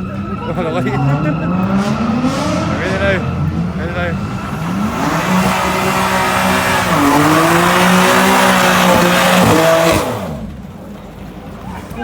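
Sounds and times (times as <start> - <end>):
tyres screeching: 0.0 - 10.5
car engine revving: 0.0 - 10.8.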